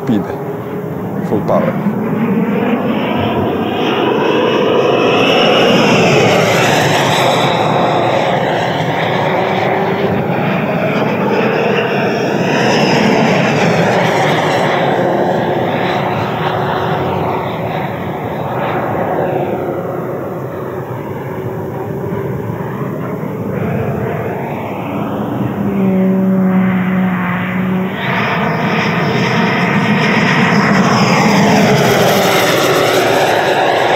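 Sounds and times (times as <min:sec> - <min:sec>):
model jet fan whine: 0:00.0 - 0:33.9.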